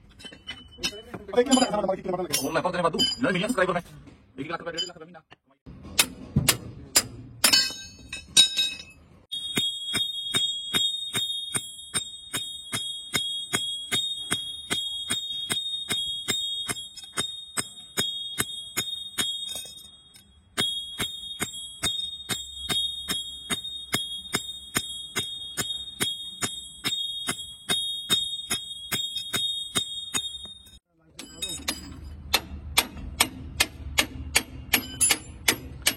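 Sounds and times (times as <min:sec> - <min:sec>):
hammer striking metal spring: 0:05.7 - 0:35.9.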